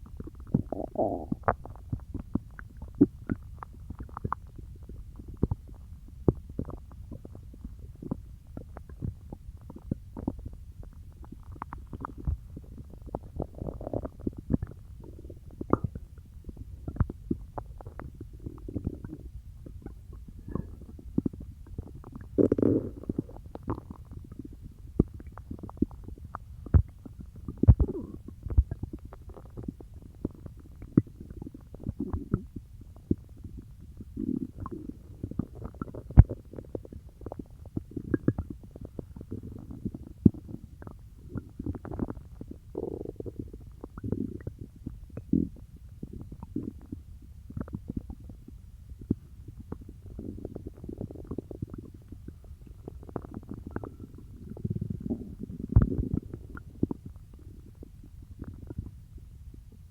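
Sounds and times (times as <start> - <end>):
stomach gurgling and growling: 0.0 - 59.9.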